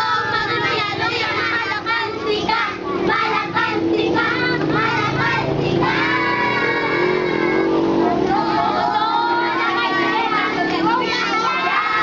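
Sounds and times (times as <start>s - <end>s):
people singing a hymn: 0.0s - 12.0s.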